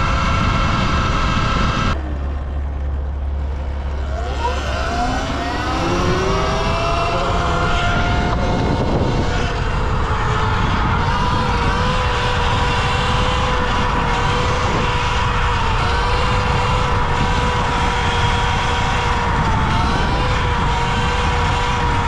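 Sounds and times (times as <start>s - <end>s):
electric motorbike drivetrain whining: 0.0s - 22.0s
heavy low rumble: 0.0s - 22.0s
wind noise: 0.0s - 22.0s.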